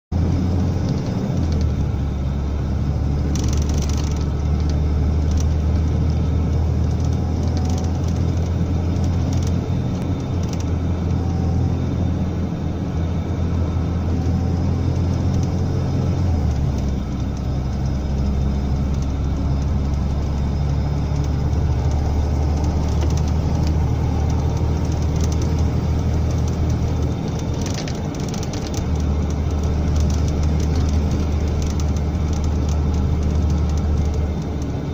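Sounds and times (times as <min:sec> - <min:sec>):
vehicle engine and road drone: 0:00.0 - 0:34.9.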